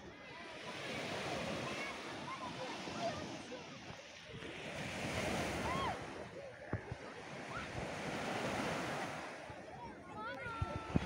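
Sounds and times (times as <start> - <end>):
small waves breaking on shore: 0.0 - 11.0.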